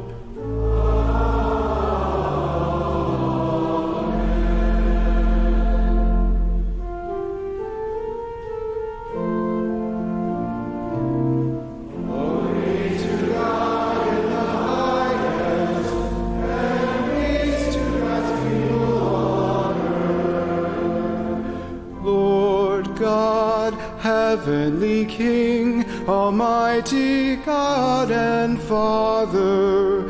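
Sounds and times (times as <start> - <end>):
congregation singing: 0.0 - 7.9, 9.1 - 30.0
organ chords: 0.0 - 30.0.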